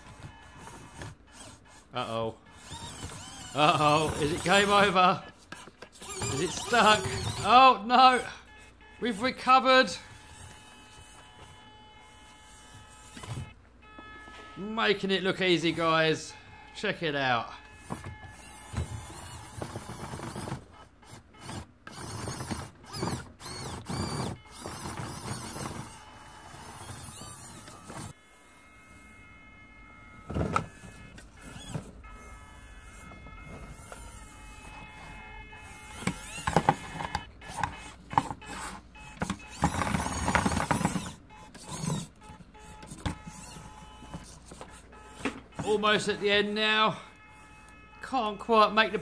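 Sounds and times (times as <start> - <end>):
tyres scraping on cardboard: 0.0 - 13.6, 17.7 - 28.2, 30.1 - 46.6
small electric motor whining: 0.0 - 49.0.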